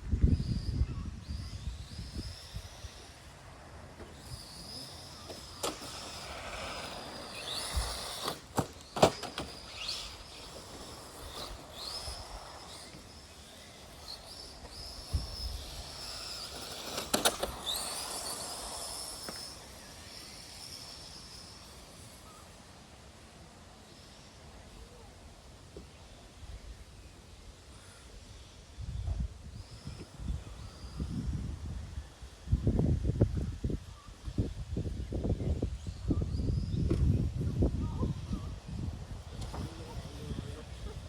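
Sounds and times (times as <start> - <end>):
electric motors whining: 0.1 - 41.0.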